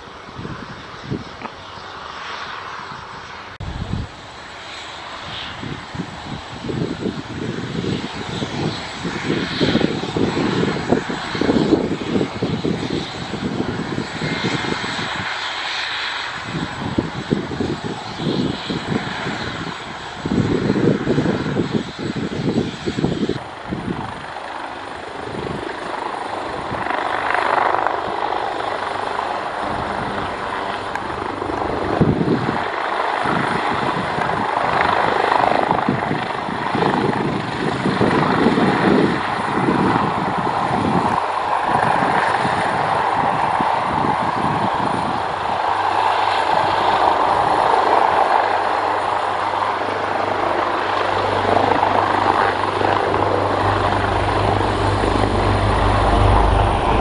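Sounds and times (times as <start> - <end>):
airliner engines roaring: 0.0 - 57.0.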